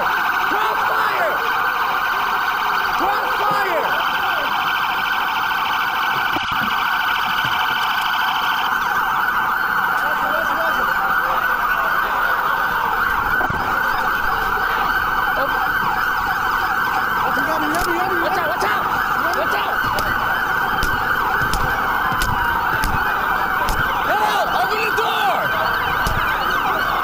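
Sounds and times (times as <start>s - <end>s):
police sirens wailing: 0.0s - 27.0s
rapidly pulsing siren tone: 0.0s - 27.0s.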